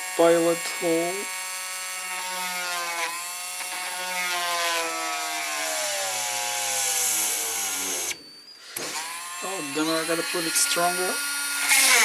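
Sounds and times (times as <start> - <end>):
rotary tool drilling plastic: 0.0 - 12.0.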